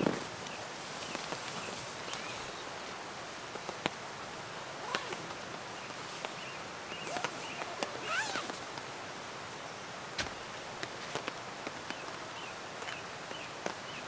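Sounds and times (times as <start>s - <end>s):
background hiss of wet bush: 0.0s - 14.0s.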